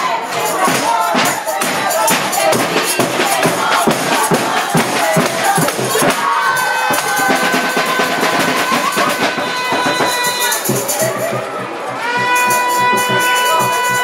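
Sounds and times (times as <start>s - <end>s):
drum and percussion beat: 0.0s - 14.0s.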